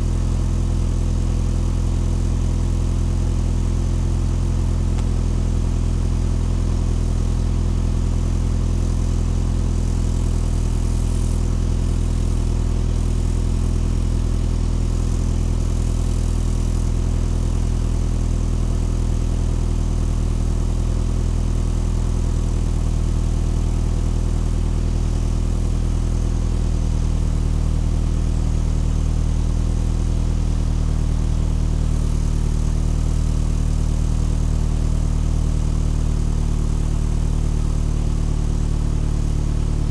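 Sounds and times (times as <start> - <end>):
vehicle engine idling: 0.0 - 39.9.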